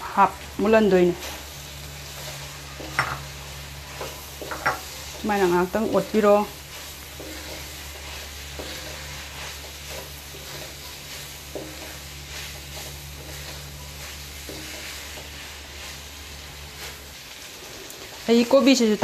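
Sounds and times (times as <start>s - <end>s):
food sizzling in a wok: 0.0s - 19.0s
wooden spatula scraping a pan: 1.0s - 19.0s.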